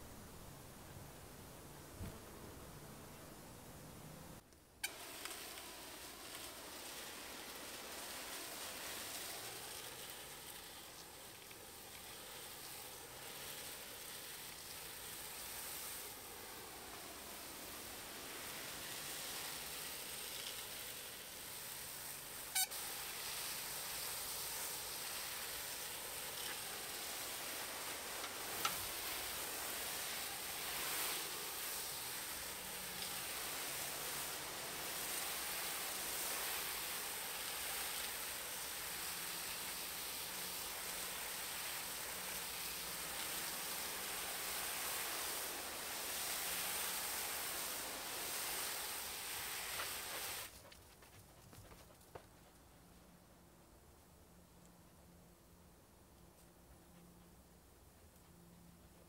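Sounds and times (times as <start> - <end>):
hose spray hissing on soil: 4.6 - 53.5.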